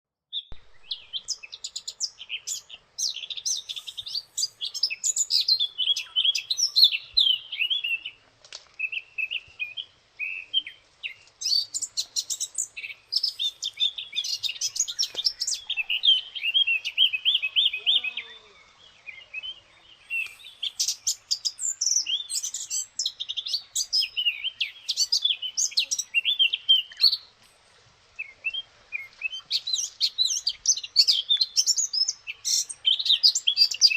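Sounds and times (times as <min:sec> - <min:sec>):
small birds chirping: 0:00.3 - 0:33.9.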